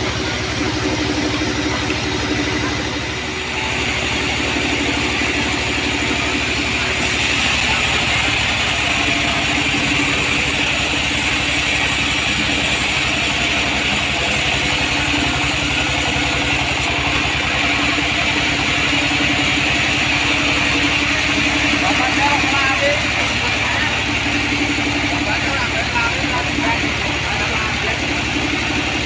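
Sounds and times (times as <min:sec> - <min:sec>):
band saw running: 0:00.0 - 0:29.0
engine pulsing: 0:00.0 - 0:29.0.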